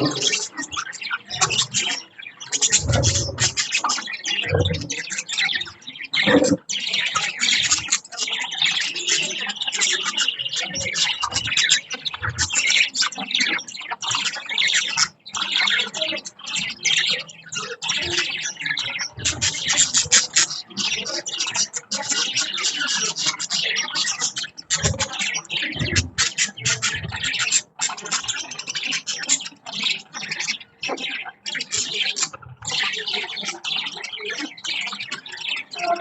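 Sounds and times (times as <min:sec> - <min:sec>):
budgies chattering: 0:00.0 - 0:36.0.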